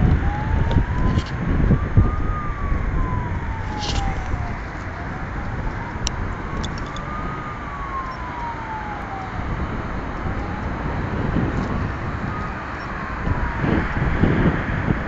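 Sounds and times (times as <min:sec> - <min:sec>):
city traffic rumble: 0:00.0 - 0:15.0
siren wailing: 0:00.0 - 0:15.0
wind on microphone: 0:00.0 - 0:15.0.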